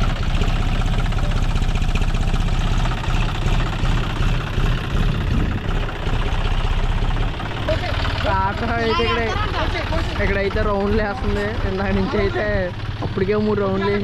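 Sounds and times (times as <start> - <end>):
diesel tractor engine idling: 0.0 - 14.0.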